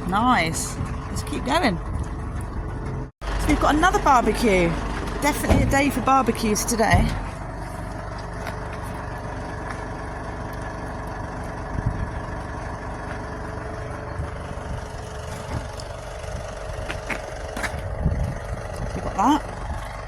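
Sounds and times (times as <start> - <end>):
truck engine running steadily: 0.0 - 20.0.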